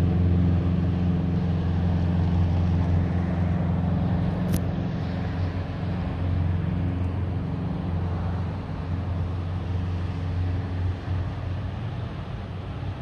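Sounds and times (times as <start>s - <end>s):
freight train rumble: 0.0s - 13.0s
highway traffic drone: 0.0s - 13.0s.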